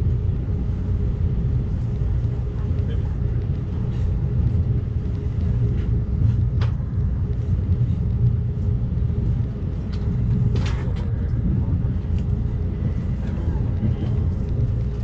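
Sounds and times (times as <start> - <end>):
faint hum: 0.0 - 15.0
train wheels rumbling on rail: 0.0 - 15.0.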